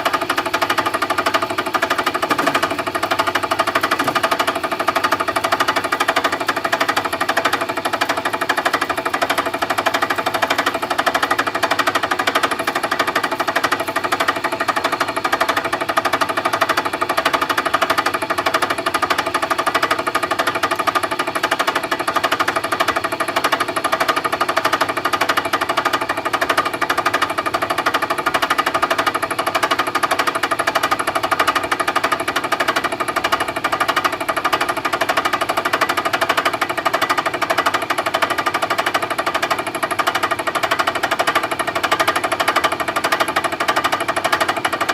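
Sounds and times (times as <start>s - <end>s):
milling machine rattling chatter: 0.0s - 44.9s.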